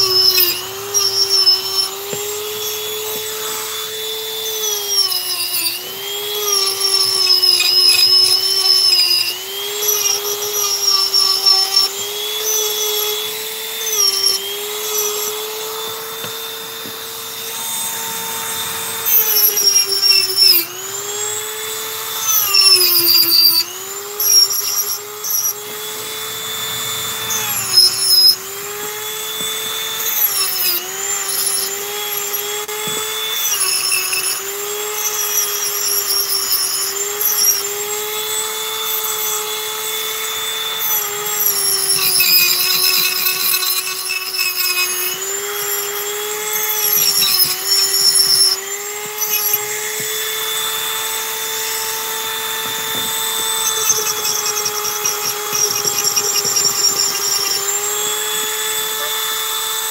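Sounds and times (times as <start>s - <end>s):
rotary tool whining carving wood: 0.0s - 59.9s.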